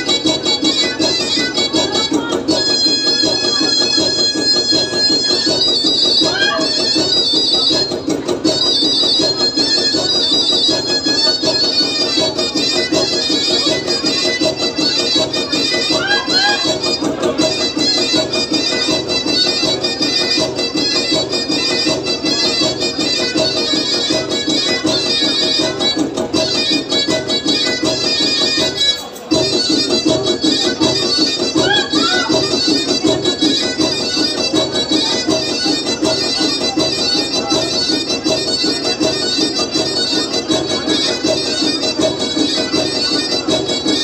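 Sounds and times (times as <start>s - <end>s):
droning reedy folk instrument: 0.0s - 44.0s
folk dance music: 0.0s - 44.0s
quick steady beat: 0.0s - 44.0s.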